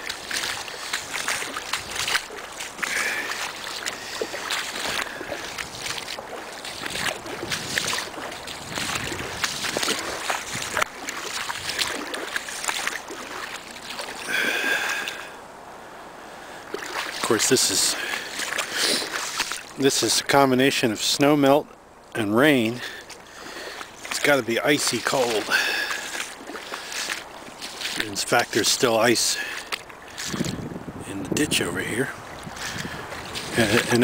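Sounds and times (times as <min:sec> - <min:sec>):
boots sloshing through water: 0:00.0 - 0:21.2, 0:22.3 - 0:34.0.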